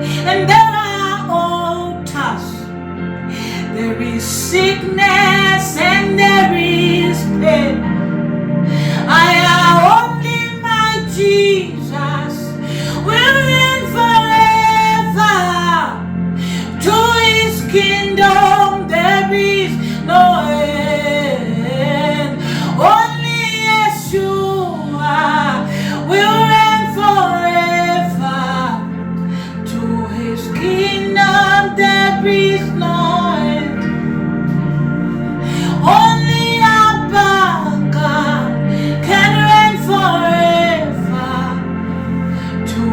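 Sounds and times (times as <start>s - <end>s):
woman singing: 0.0s - 2.7s, 3.4s - 7.9s, 8.7s - 34.1s, 35.4s - 42.9s
sustained instrumental accompaniment: 0.0s - 42.9s.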